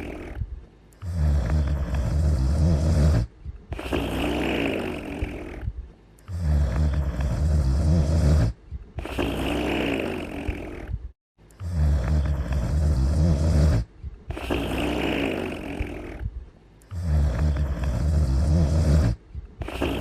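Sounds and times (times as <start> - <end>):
loud low snore: 0.0 - 0.4, 1.0 - 16.3, 16.9 - 20.0
soft high breathy snore: 0.0 - 11.0, 11.6 - 20.0.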